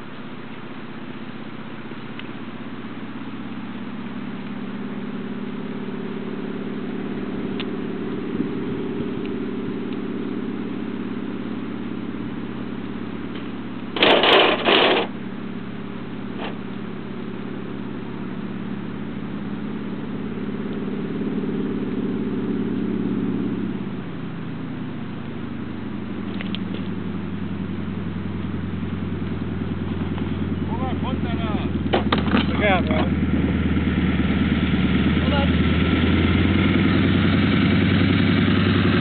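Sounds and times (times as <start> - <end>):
plane engine droning: 0.0 - 39.0.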